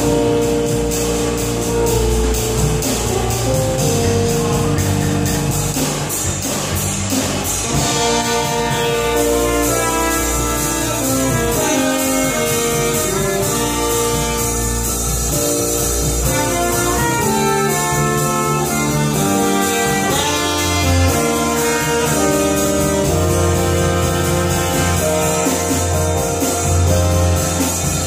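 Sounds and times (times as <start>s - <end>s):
bass: 0.0s - 28.0s
brass horn melody: 0.0s - 28.0s
drums with busy cymbals: 0.0s - 28.0s
keyboards: 0.0s - 28.0s.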